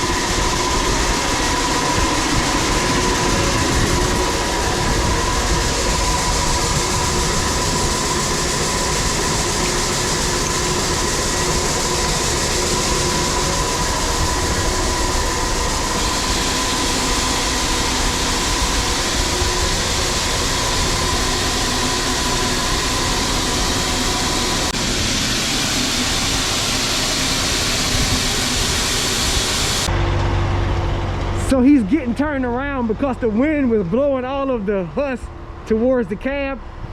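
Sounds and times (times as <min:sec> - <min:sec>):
heavy machinery engine running: 0:00.0 - 0:36.9
thin steady whine: 0:00.0 - 0:36.9.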